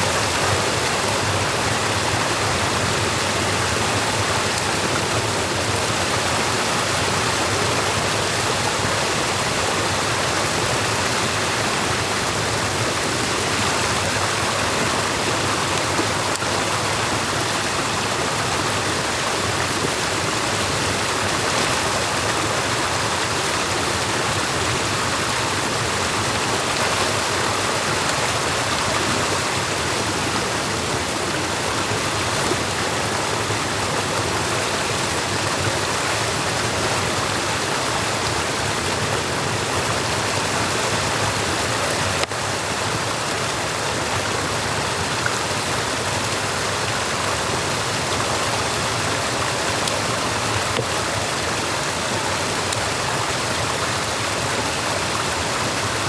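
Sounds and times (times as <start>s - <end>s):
stream water rushing over dam: 0.0s - 56.0s.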